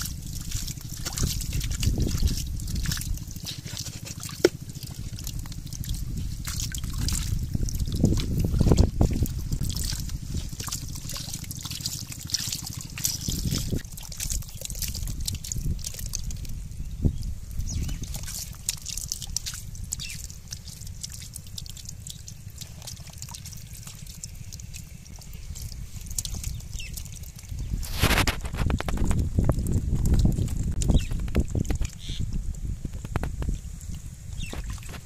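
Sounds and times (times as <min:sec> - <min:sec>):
fish splashing and wriggling: 0:00.0 - 0:35.0
water trickling down a pipe: 0:00.0 - 0:35.0.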